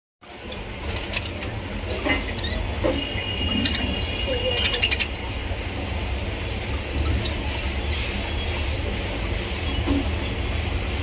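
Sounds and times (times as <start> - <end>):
budgerigars chirping: 0.5 - 10.4.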